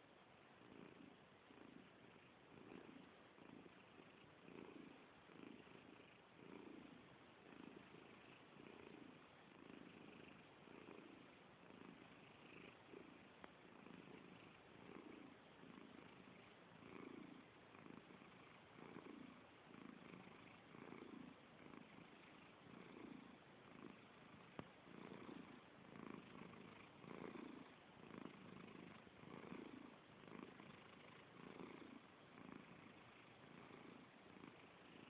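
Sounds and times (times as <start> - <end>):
pet snoring softly: 0.6 - 35.0.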